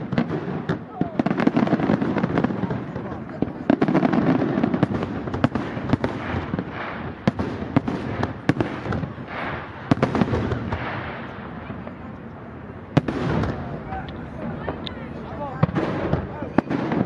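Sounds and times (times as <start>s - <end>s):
continuous fireworks rumble: 0.0s - 17.0s.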